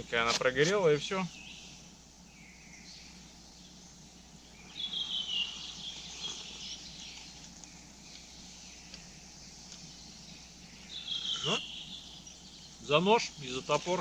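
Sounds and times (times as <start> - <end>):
faint forest background: 0.0 - 14.0
songbird singing: 0.0 - 14.0.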